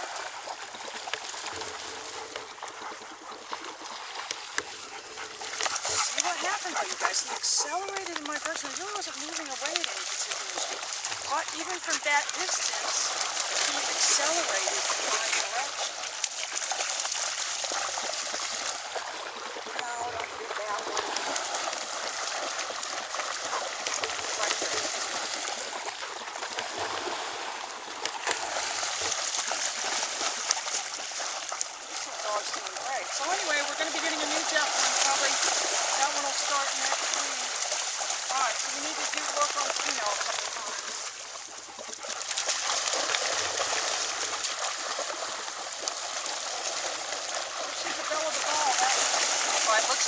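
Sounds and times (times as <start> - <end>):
dogs splashing through water: 0.0 - 50.0.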